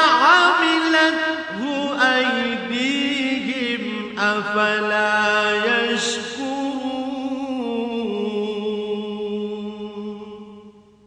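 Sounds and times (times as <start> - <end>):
man chanting melodically: 0.0 - 10.6.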